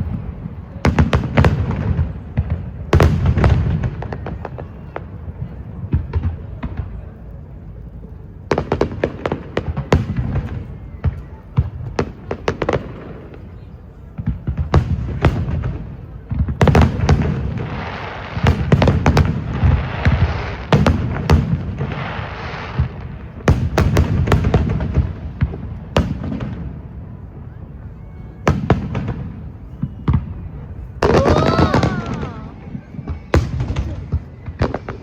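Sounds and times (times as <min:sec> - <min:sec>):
fireworks bangs and crackle: 0:00.0 - 0:35.0.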